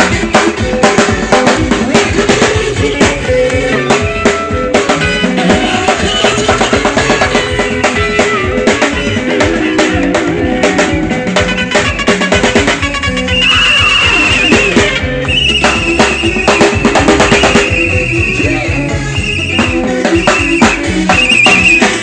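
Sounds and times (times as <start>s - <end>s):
band music: 0.0s - 22.0s
bass drum and snare hits: 0.0s - 22.0s.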